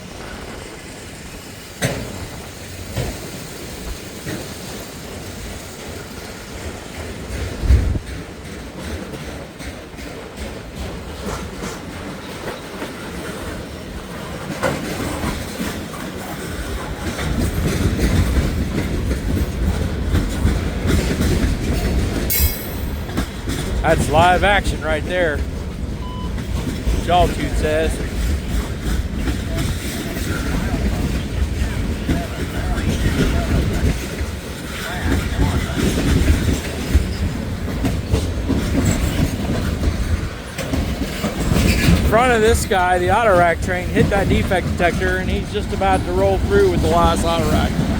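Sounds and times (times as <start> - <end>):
freight train rumbling past: 0.0 - 47.9
wheels clacking over rail joints: 0.0 - 47.9.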